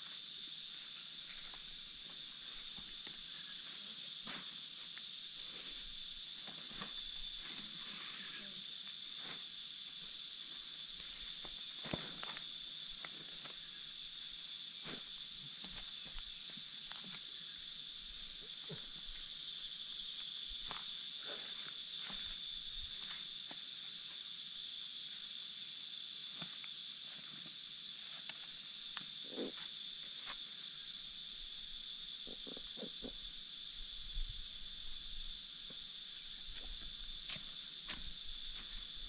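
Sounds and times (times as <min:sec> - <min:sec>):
insects droning high-pitched: 0:00.0 - 0:39.0.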